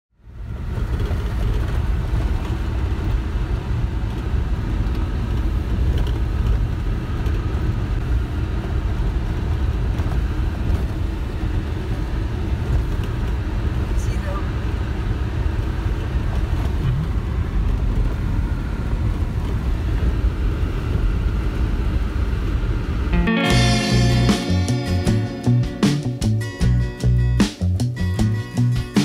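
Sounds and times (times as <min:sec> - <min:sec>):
vehicle driving on dirt road: 0:00.2 - 0:29.0.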